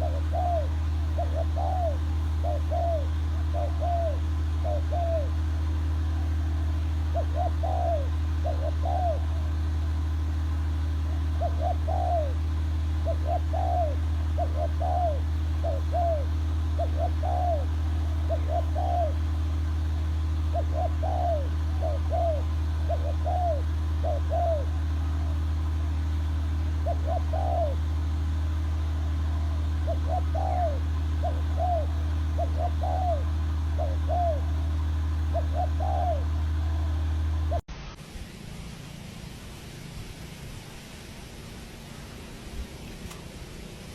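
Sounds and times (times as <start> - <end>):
bird calling: 0.0 - 37.6
steady low hum: 0.0 - 43.9.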